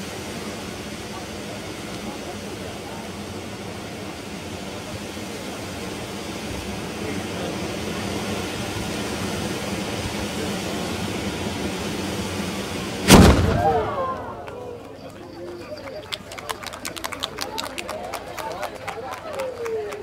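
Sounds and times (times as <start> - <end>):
firework fountain roaring: 0.0 - 20.0.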